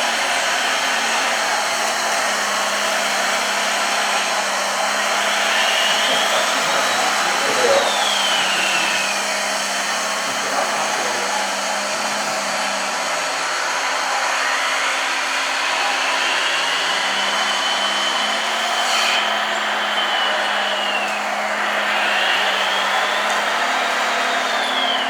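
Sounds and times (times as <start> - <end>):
electric motors whining: 0.0 - 25.0.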